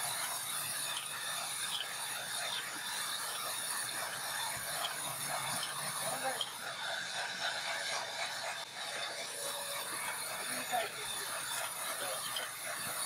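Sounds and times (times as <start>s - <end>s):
band saw cutting log: 0.0s - 13.0s.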